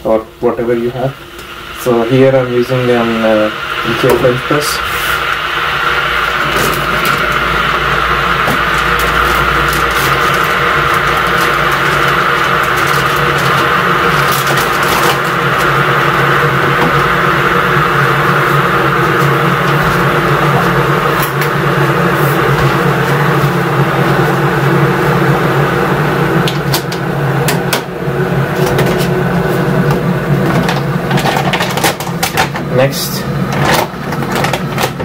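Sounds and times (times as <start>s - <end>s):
electric kettle heating water: 0.0s - 35.0s.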